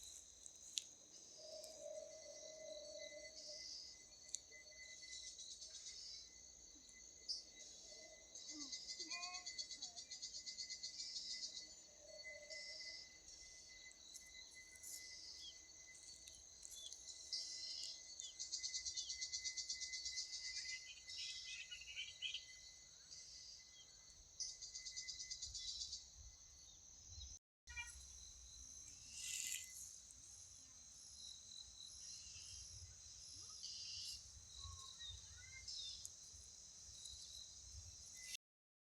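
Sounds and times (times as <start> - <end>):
insects trilling: 0.0 - 38.4.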